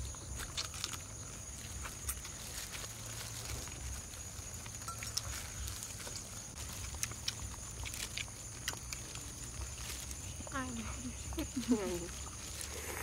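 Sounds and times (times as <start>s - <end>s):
chewing corn on the cob: 0.0s - 13.0s
insects droning: 0.0s - 13.0s.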